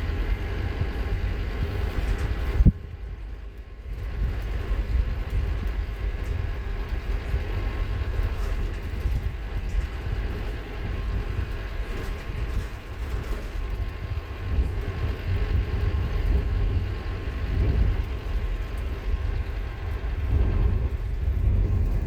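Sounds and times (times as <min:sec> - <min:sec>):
bus diesel engine rumble: 0:00.0 - 0:22.0.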